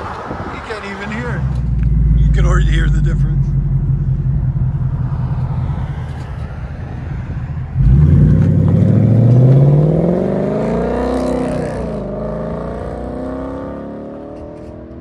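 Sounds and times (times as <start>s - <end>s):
car exhaust revving: 1.1s - 15.0s.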